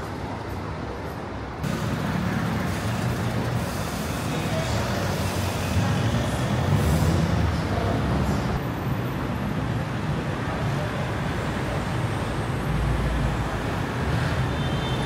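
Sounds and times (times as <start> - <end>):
city road traffic: 0.0 - 15.0.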